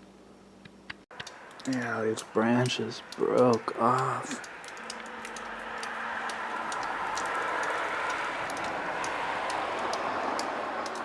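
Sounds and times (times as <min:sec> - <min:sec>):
sharp ticks: 0:00.6 - 0:11.0
vehicle passing by: 0:01.4 - 0:11.0.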